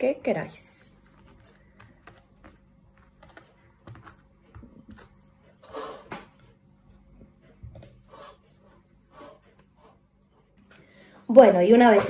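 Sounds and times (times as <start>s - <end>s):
hands shaping cookie dough: 0.0s - 12.0s.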